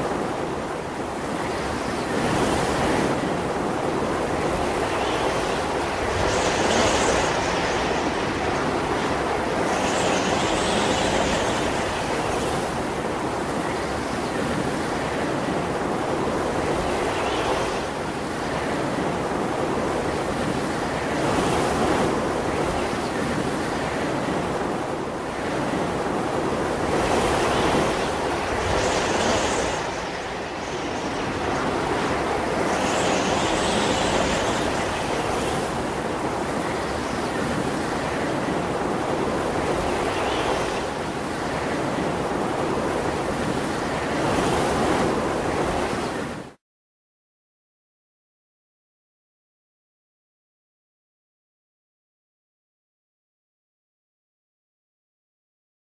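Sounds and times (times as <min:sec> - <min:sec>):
waves breaking on shore: 0:00.0 - 0:46.6.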